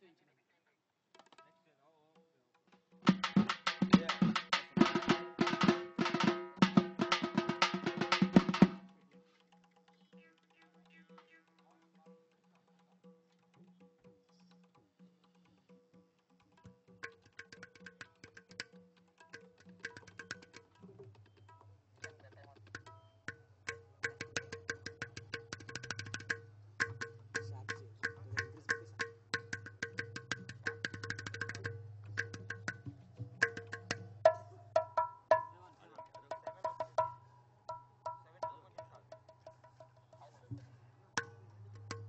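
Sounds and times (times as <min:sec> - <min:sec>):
tabla playing fast rhythm: 0:01.2 - 0:01.5, 0:02.1 - 0:42.0.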